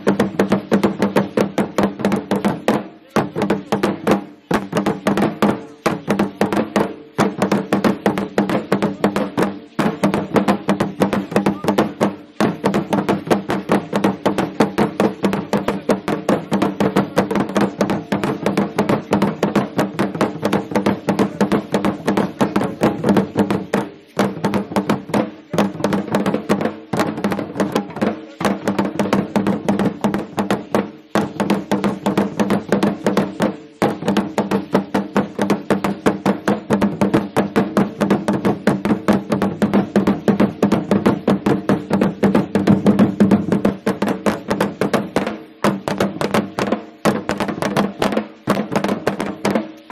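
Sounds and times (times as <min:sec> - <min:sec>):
deep drum beating fast: 0:00.0 - 0:49.9.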